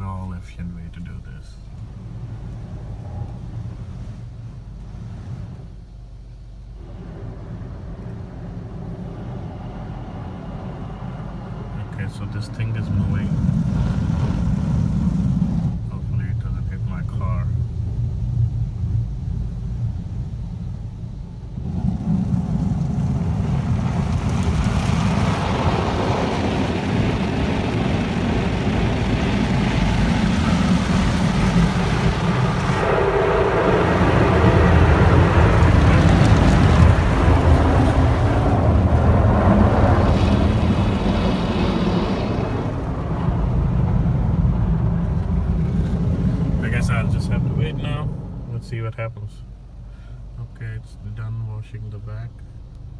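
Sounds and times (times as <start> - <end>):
low rumble: 0.0 - 52.9.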